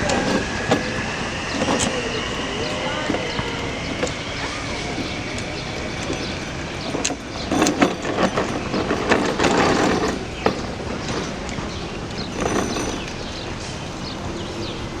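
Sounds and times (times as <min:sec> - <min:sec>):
train wheels knocking over rail joints: 0:00.0 - 0:14.2
train rolling noise: 0:00.0 - 0:15.0.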